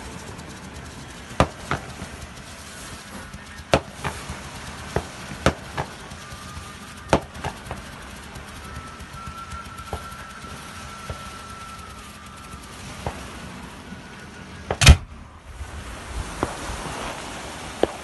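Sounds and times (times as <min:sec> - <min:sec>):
fireworks bangs: 0:00.0 - 0:18.0
thin firework whistle: 0:00.0 - 0:18.0.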